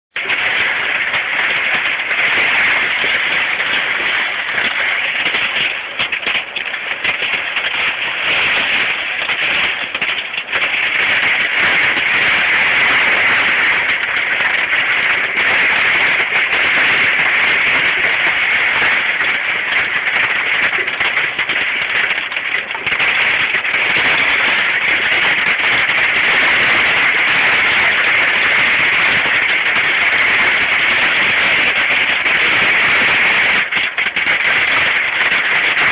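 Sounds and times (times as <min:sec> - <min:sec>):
hail pelting down: 0:00.1 - 0:35.9.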